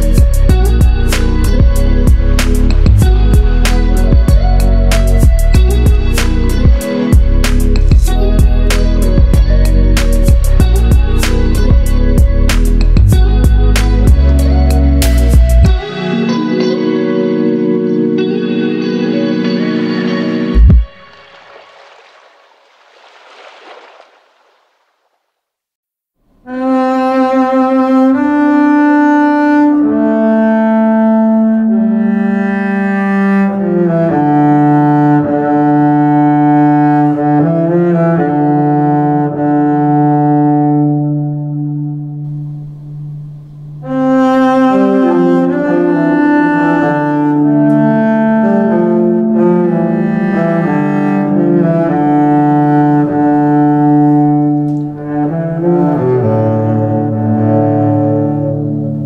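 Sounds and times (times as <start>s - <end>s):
slow music of long held notes: 0.0s - 21.4s, 26.3s - 59.0s.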